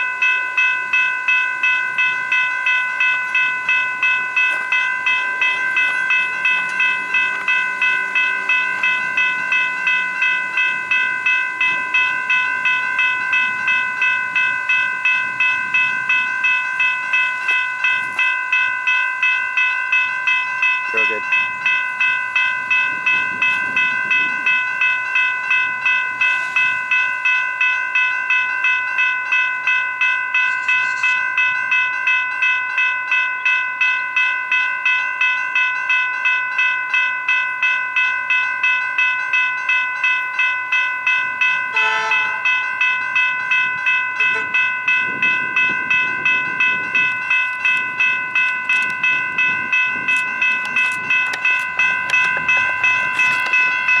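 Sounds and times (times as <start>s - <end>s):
level crossing warning bell ringing: 0.0s - 54.0s.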